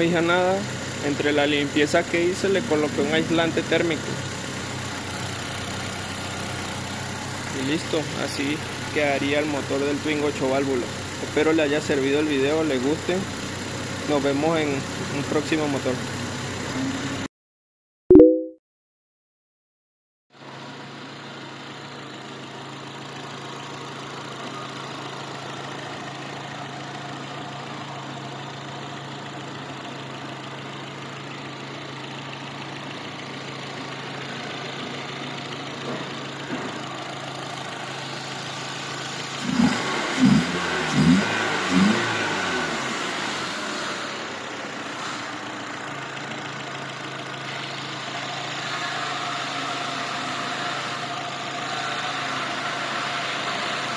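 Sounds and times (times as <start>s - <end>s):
car engine idling: 0.0s - 17.2s, 20.5s - 53.9s.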